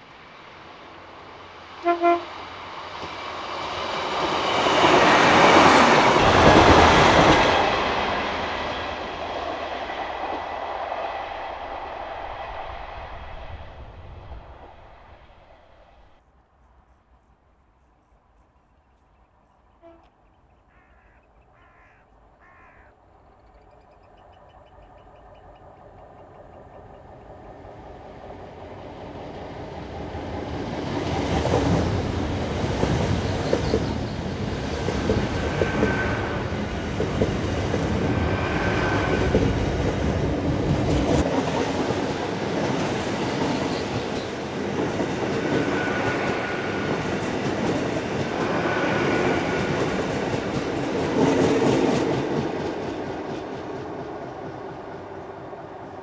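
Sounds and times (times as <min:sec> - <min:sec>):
diesel train passing: 0:00.0 - 0:16.2, 0:23.0 - 0:56.0.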